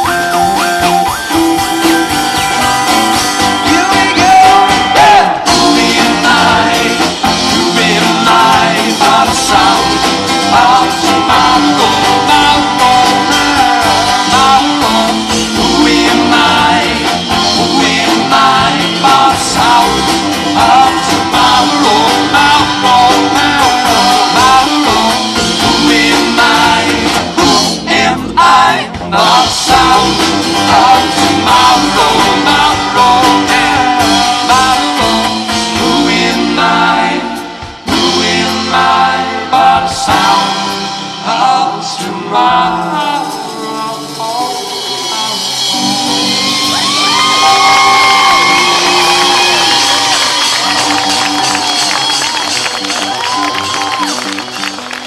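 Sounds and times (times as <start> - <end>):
person singing: 0.0 - 54.7
live rock band: 0.0 - 55.0.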